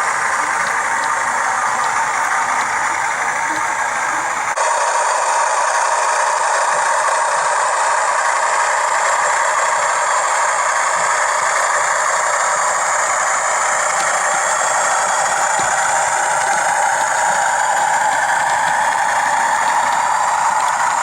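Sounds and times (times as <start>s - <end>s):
diesel engine sound from small speaker: 0.0s - 21.0s.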